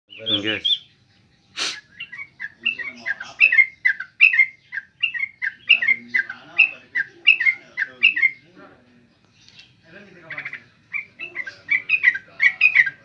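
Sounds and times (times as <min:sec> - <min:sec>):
caged bird calling: 0:00.1 - 0:13.0.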